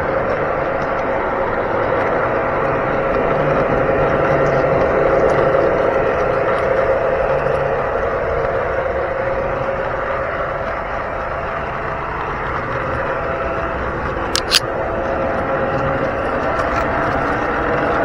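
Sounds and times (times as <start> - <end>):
motor and gear whine: 0.0 - 18.0.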